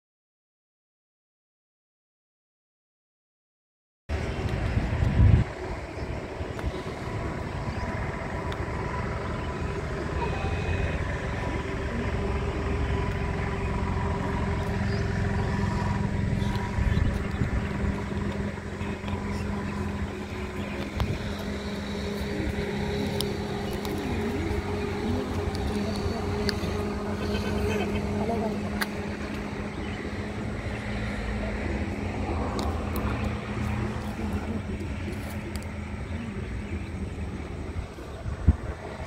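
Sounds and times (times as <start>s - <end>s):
distant road traffic rumble: 4.1s - 39.0s.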